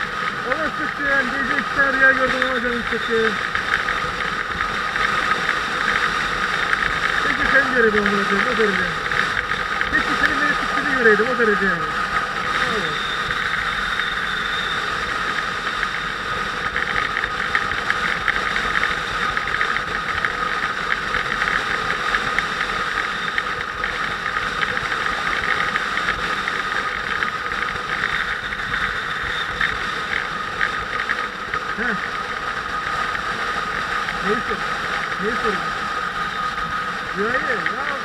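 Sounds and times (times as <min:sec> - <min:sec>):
motorcycle cruising: 0:00.0 - 0:38.0
steady high whine: 0:00.0 - 0:38.0
wind and road noise: 0:00.0 - 0:38.0.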